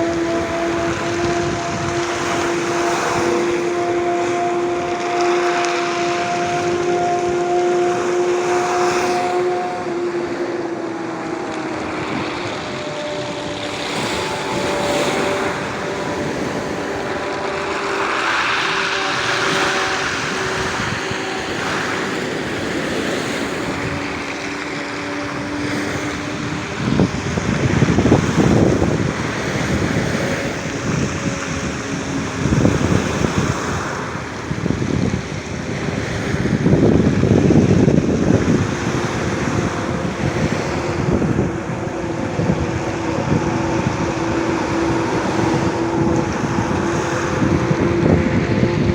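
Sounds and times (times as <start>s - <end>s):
steady engine drone: 0.0s - 48.9s
waves breaking on a beach: 0.0s - 48.9s.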